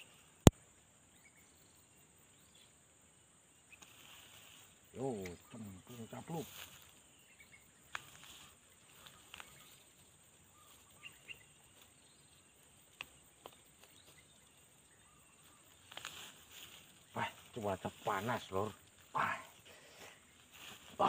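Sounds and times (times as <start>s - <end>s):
faint high hiss: 0.0s - 21.0s.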